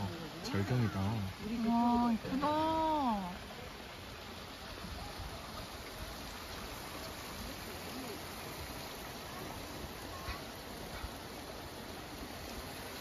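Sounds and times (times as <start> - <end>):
faint distant voices: 0.0 - 12.8.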